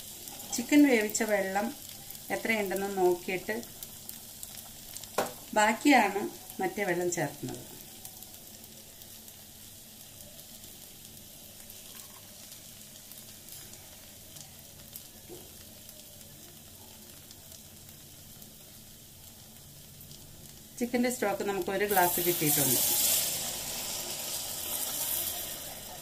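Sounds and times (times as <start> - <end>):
rice sizzling in a pan: 0.0 - 26.0.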